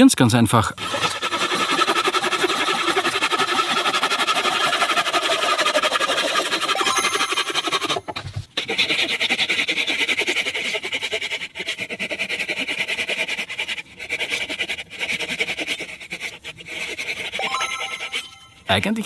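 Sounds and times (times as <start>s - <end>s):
saw rasping through wood: 0.8s - 18.7s.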